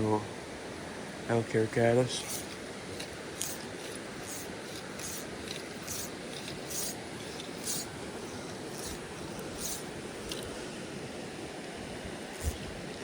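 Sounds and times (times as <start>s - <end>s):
mountain creek rushing: 0.0s - 13.0s.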